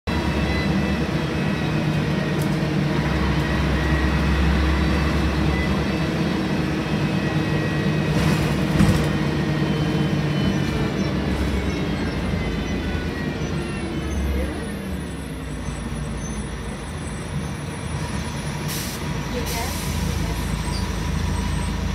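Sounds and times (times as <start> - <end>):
bus cabin noise: 0.1 - 21.9
bus diesel engine running: 0.1 - 21.9.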